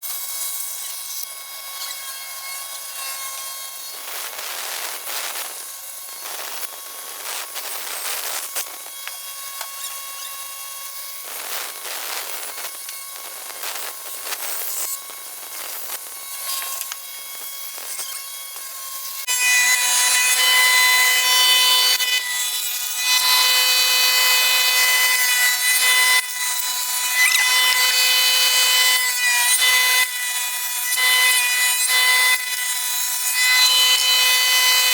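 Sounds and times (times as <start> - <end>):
power saw cutting wood: 0.0 - 34.9.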